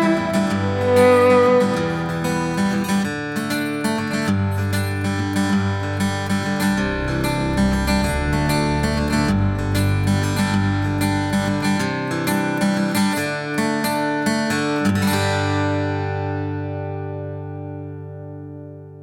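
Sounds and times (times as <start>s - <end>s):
strummed guitar: 0.0s - 19.0s.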